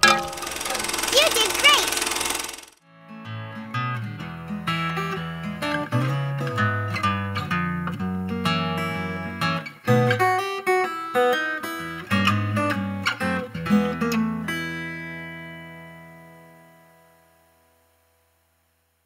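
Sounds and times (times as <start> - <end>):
acoustic guitar music: 0.0 - 18.1.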